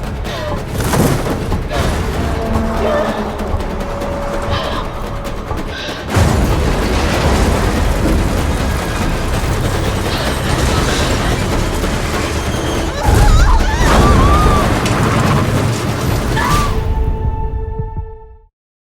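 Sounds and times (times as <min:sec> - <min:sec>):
heavy steady rumble: 0:00.0 - 0:16.4.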